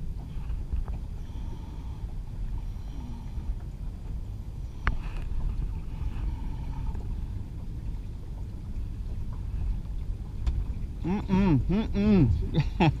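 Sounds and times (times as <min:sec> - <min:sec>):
water washing along hull: 0:00.0 - 0:13.0.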